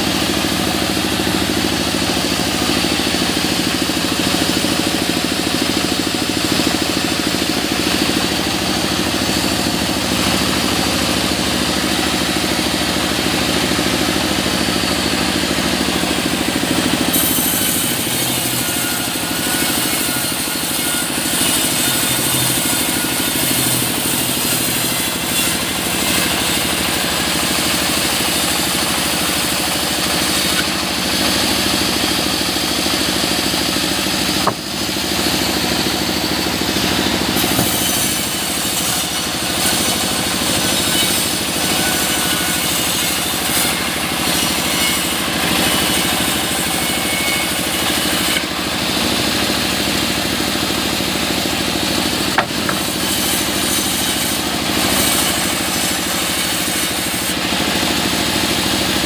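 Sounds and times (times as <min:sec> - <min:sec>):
band sawmill cutting wood: 0:00.0 - 0:59.0.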